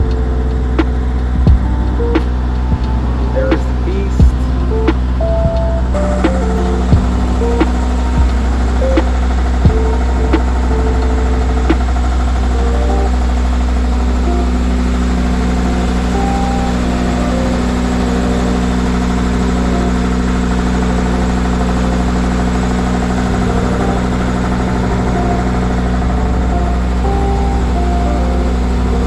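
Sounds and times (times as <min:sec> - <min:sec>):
diesel generator running: 0:00.0 - 0:29.0.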